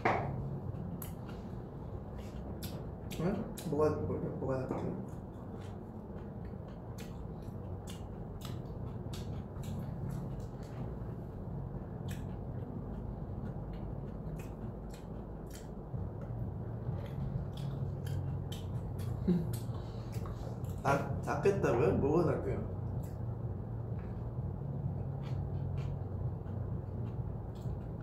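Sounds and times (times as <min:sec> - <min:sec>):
steady low hum: 0:00.0 - 0:28.0
person chewing a sandwich: 0:00.3 - 0:03.7, 0:05.0 - 0:20.8, 0:22.8 - 0:28.0.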